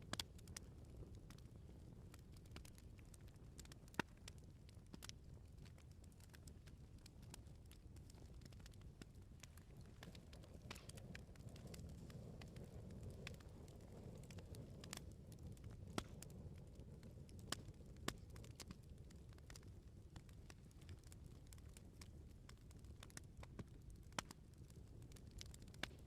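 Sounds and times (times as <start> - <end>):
bonfire snaps and pops: 0.0 - 26.0
low rumble of burning wood: 0.0 - 26.0.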